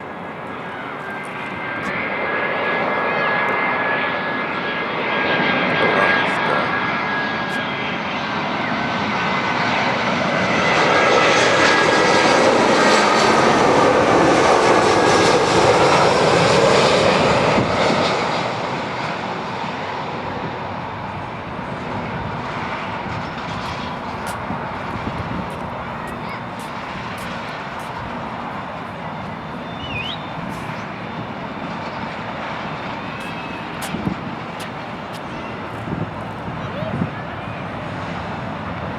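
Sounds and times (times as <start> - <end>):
airliner flying past: 0.0 - 38.9.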